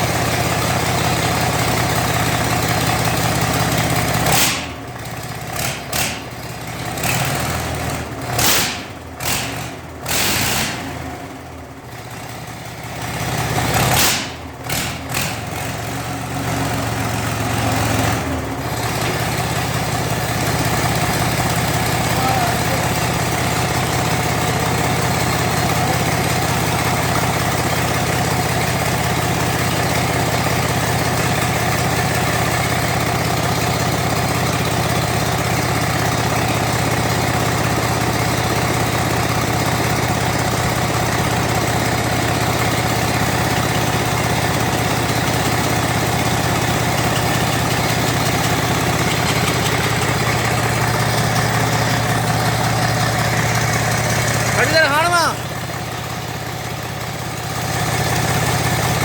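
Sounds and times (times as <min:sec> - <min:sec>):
old engine idling: 0:00.0 - 0:59.0.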